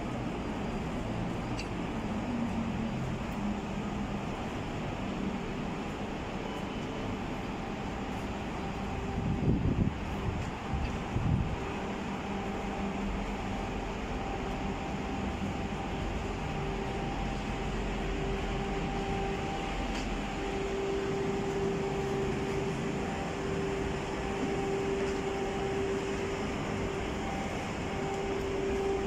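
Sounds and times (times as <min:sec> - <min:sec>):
constant background rush: 0:00.0 - 0:29.0
mechanical hum droning: 0:00.0 - 0:29.0.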